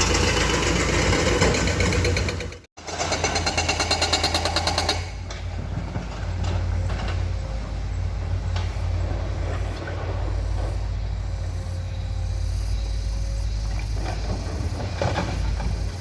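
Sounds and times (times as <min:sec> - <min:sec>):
construction machinery rattle: 0:00.0 - 0:16.0
diesel engine drone: 0:00.0 - 0:16.0.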